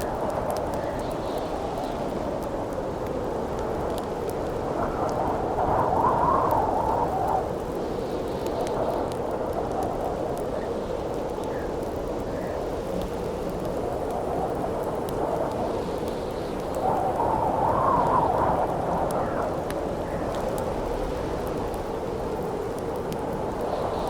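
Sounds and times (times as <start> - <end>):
campfire crackling: 0.0 - 24.0
howling wind: 0.0 - 24.0.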